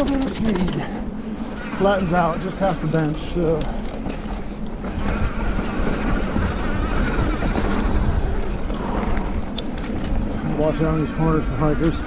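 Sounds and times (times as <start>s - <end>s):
bike rattles and clicks: 0.0s - 12.0s
bike tyres rumbling on dirt: 0.0s - 12.0s
wind buffeting microphone: 0.0s - 12.0s.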